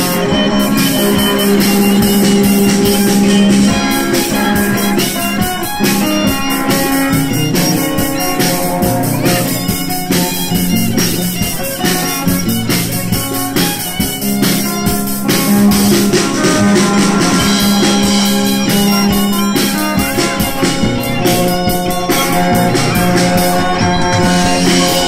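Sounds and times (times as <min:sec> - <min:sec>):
drum kit beat: 0:00.0 - 0:25.0
electric guitar: 0:00.0 - 0:25.0
violin: 0:00.0 - 0:25.0.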